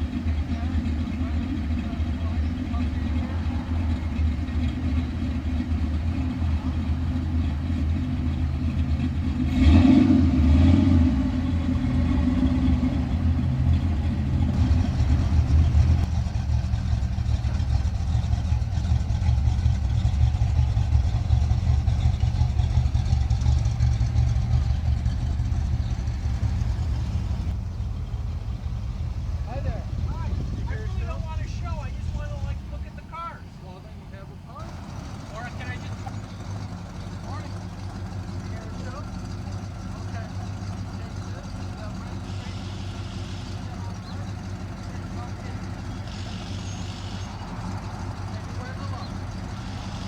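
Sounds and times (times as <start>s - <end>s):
car engine running: 0.0s - 50.0s.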